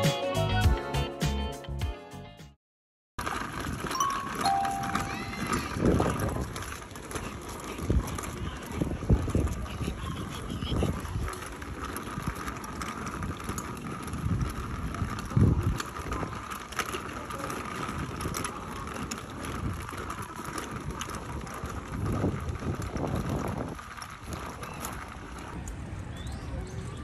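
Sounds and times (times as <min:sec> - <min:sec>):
wagon wheels rolling on asphalt: 0:03.2 - 0:27.0.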